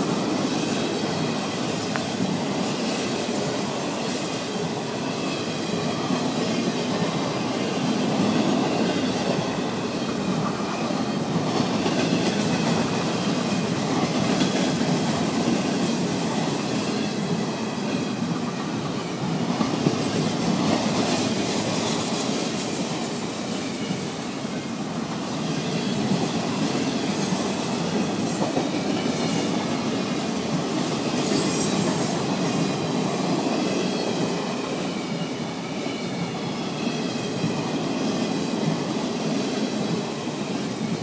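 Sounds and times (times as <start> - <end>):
train wheels rolling on rails: 0.0 - 41.0.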